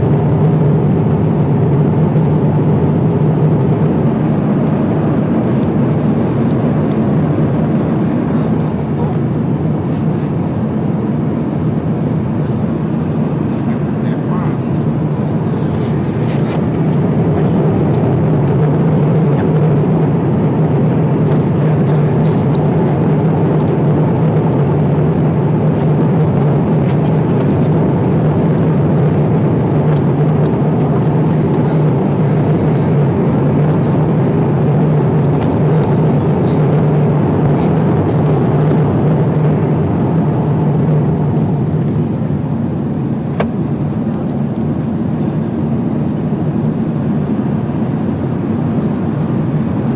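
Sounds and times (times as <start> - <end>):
airplane cabin roar: 0.0 - 49.9
low hum: 0.0 - 49.9.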